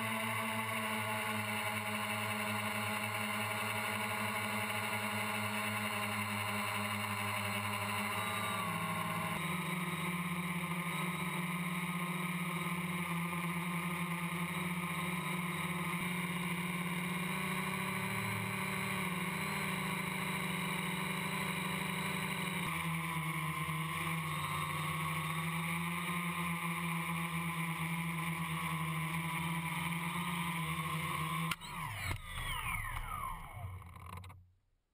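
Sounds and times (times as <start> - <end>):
quadcopter motors and propellers: 0.0 - 34.4.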